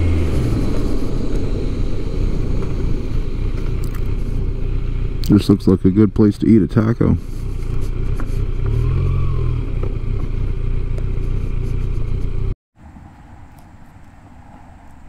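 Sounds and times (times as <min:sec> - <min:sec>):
motorcycle engine at low revs: 0:00.0 - 0:12.6
steady outdoor hiss: 0:00.0 - 0:15.0.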